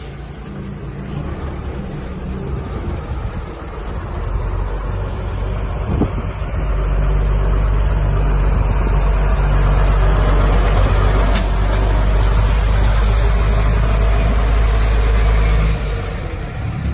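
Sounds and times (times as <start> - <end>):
fire truck engine rumbling: 0.0 - 16.9.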